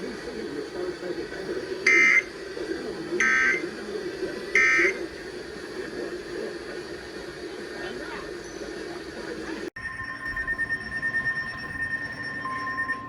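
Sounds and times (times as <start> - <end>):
receiver low hum: 0.0 - 13.0.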